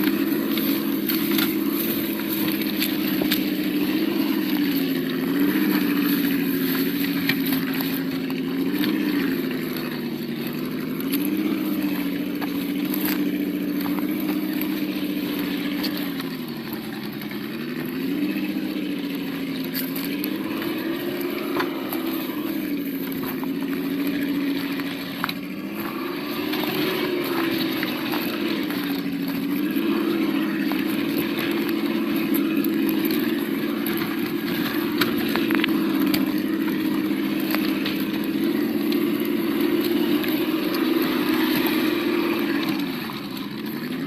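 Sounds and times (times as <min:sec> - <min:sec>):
simulated engine sound: 0:00.0 - 0:44.0.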